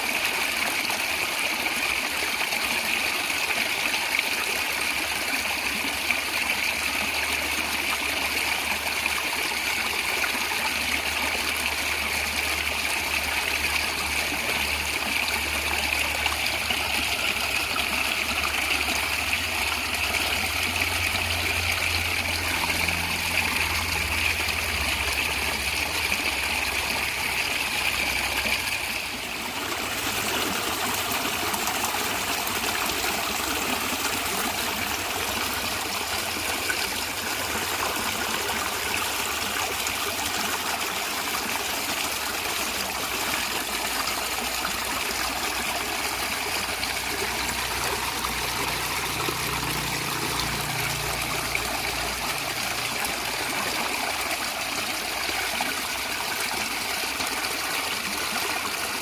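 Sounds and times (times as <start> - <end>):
stream water running and gurgling: 0.0 - 59.0.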